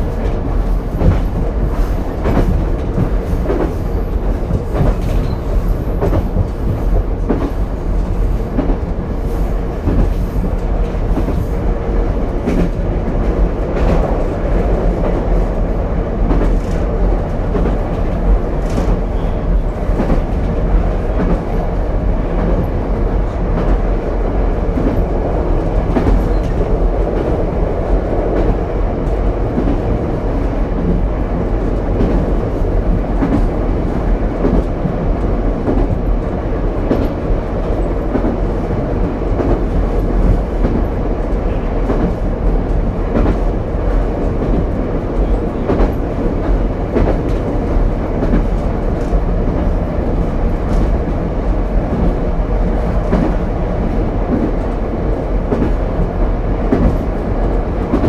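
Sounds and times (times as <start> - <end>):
railcar running rumble: 0.0 - 58.0.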